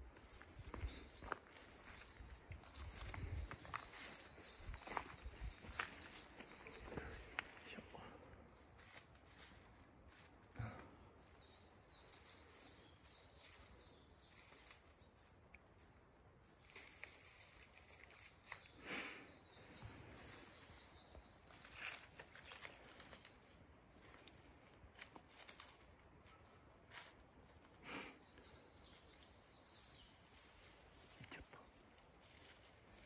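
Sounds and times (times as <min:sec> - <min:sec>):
faint rustles: 0:00.2 - 0:18.8, 0:19.4 - 0:33.0.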